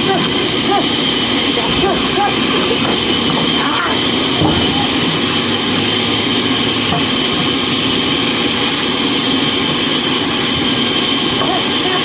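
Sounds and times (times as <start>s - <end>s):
woodworking machine whining: 0.0s - 12.0s.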